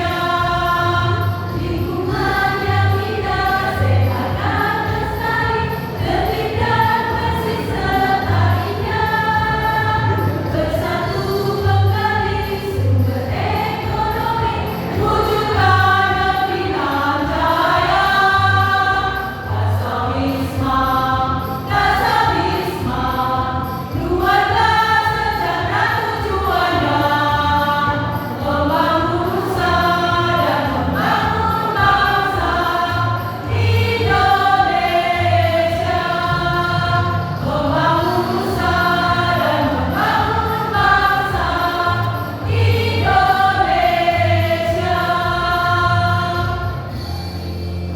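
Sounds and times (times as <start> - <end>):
choir singing: 0.0 - 47.3.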